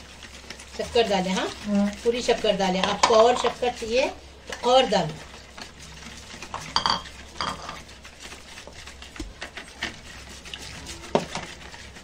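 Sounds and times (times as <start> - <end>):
whisk clicking against a plastic bowl: 0.0 - 12.0.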